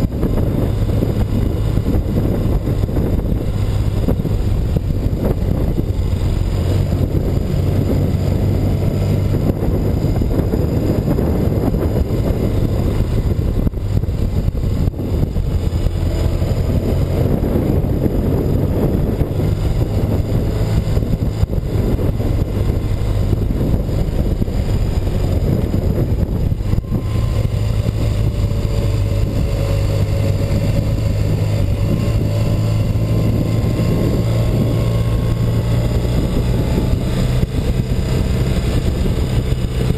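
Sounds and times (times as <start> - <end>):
faint rising whine: 0.0 - 39.9
motorcycle engine running: 0.0 - 39.9
wind noise on microphone: 0.0 - 39.9.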